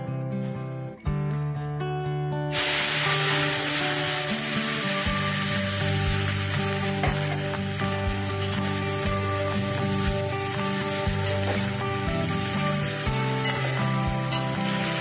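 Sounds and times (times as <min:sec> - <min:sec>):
milk sizzling in hot fat: 0:02.5 - 0:15.0.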